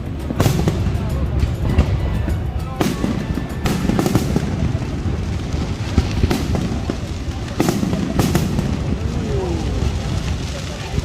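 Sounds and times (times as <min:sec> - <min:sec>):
fireworks bangs: 0:00.0 - 0:11.0
low rumble of bursts: 0:00.0 - 0:11.0.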